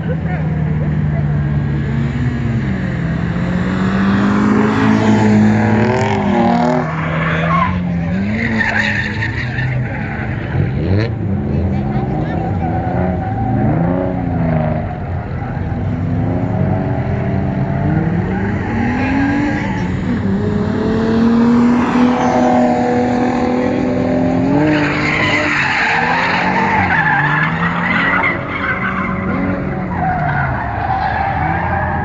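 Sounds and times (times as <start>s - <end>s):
car engine revving: 0.0s - 32.0s
tires screeching: 0.0s - 32.0s.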